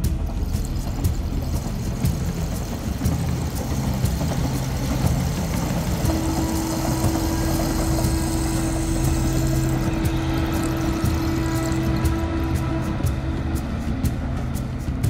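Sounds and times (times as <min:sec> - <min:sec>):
train engine humming: 0:00.0 - 0:15.0
steady high tone: 0:00.5 - 0:14.1.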